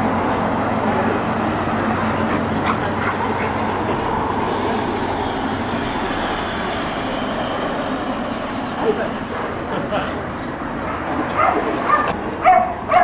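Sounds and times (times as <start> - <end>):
low hum: 0.0 - 11.9
rumbling background noise: 0.0 - 13.0.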